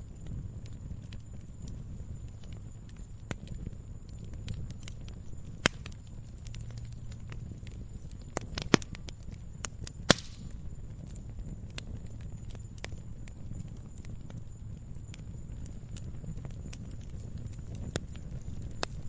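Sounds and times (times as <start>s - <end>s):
low steady fire rumble: 0.0s - 19.0s
firewood snapping and popping: 0.1s - 19.0s.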